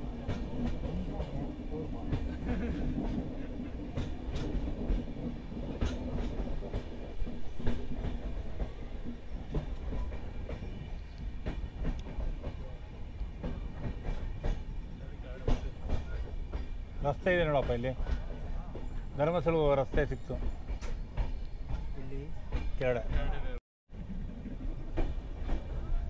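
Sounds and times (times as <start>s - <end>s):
train wheels rumbling on rails: 0.0s - 26.0s
wheels clicking over rail joints: 0.0s - 26.0s.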